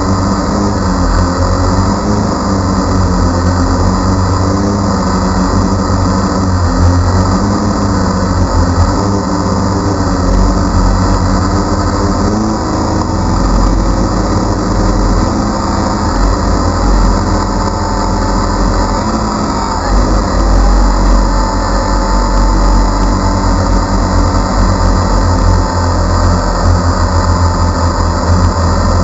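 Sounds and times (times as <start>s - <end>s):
drone motors whirring: 0.0s - 29.0s.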